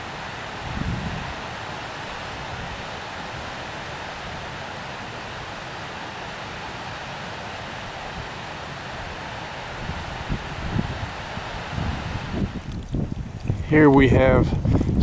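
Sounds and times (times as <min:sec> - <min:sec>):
river water rushing: 0:00.0 - 0:12.7.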